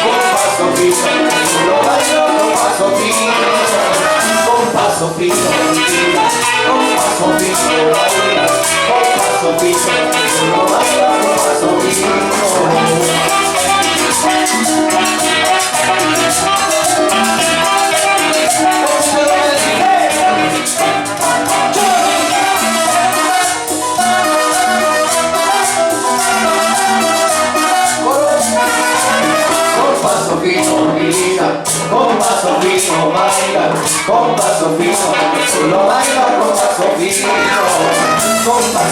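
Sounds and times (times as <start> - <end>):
latin dance orchestra music: 0.0 - 38.9.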